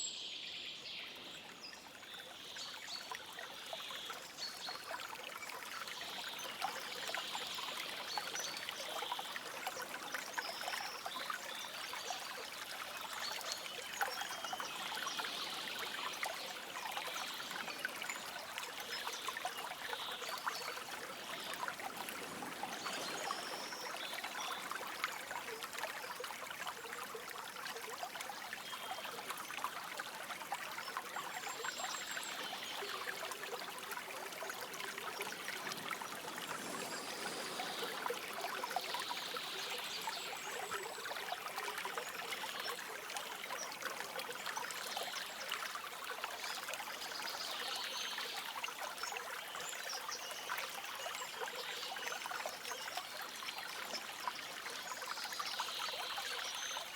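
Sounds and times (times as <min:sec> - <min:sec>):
stream trickling and babbling: 0:00.0 - 0:56.9.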